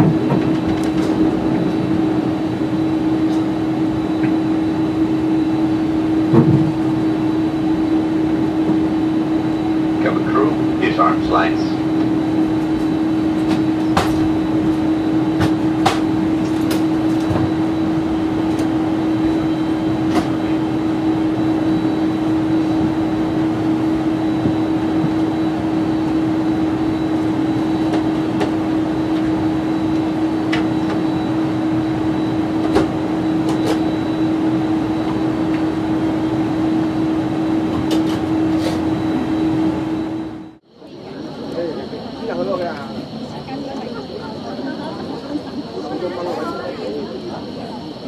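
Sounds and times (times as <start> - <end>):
aircraft cabin drone: 0.0 - 48.0.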